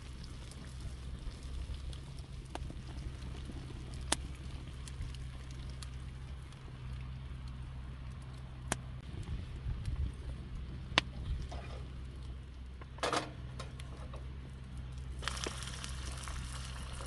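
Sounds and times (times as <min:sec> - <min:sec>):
campfire crackling: 0:00.0 - 0:17.0
fire popping: 0:00.0 - 0:17.0
low steady rumble: 0:00.0 - 0:17.0.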